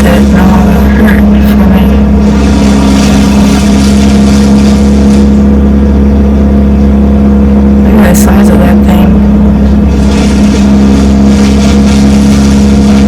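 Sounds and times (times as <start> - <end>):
wood chipper engine droning: 0.0 - 13.0.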